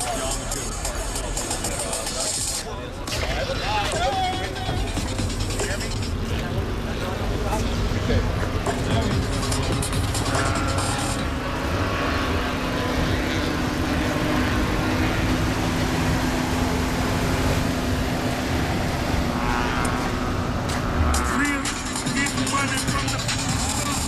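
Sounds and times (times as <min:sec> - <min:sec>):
car engines running: 0:00.0 - 0:24.0.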